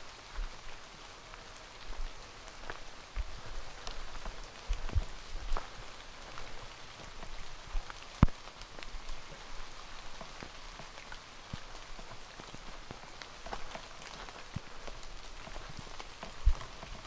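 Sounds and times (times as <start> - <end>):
rain on foliage: 0.0 - 17.0.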